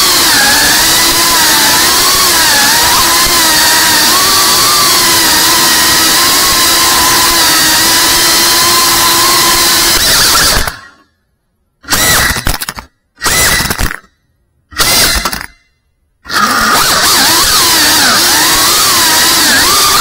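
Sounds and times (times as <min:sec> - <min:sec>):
quadcopter motors whining: 0:00.0 - 0:11.0, 0:11.8 - 0:14.0, 0:14.8 - 0:15.6, 0:16.2 - 0:20.0.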